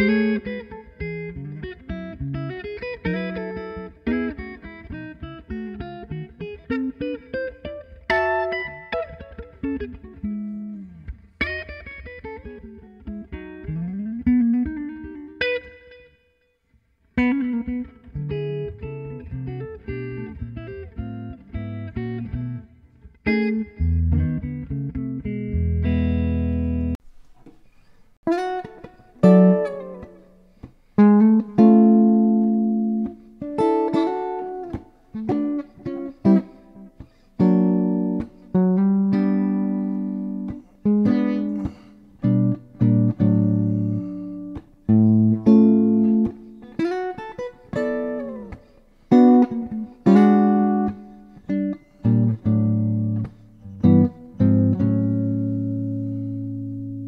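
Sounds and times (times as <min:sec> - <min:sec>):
electric guitar playing jazz: 0:00.0 - 0:16.3, 0:17.1 - 0:27.0, 0:28.2 - 0:57.0.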